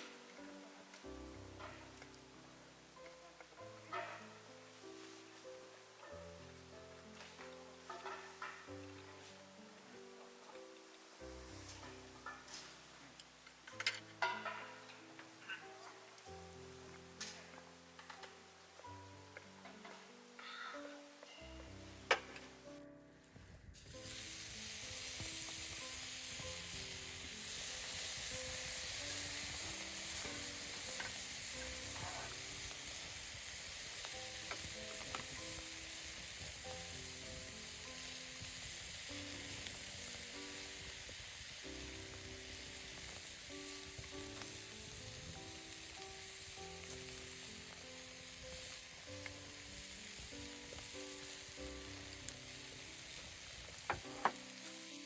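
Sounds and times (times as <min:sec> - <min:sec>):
food sizzling in a pan: 0:00.0 - 0:22.8, 0:23.7 - 0:55.0.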